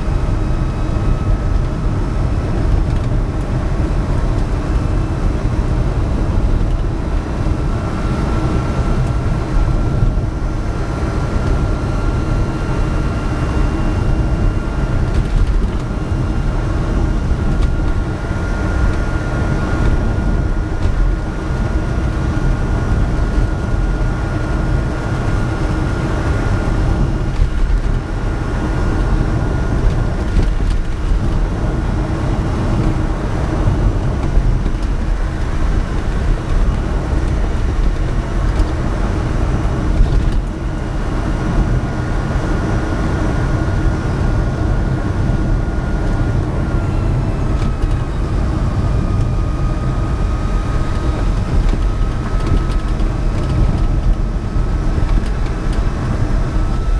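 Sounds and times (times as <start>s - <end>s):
electric motor whine: 0.0s - 56.9s
road and tyre rumble: 0.0s - 56.9s.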